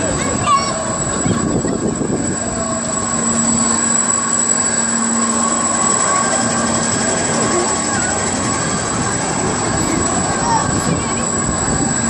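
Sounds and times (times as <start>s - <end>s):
amusement ride mechanical rumble: 0.0s - 12.0s
low hum: 0.0s - 12.0s.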